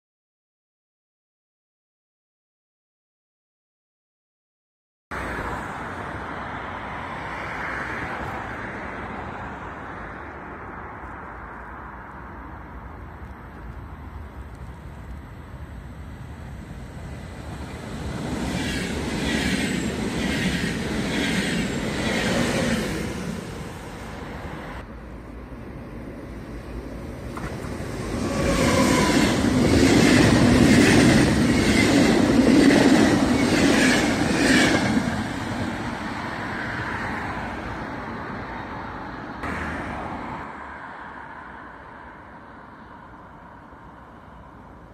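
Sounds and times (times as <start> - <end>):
heavy train rumble: 5.2 - 44.9.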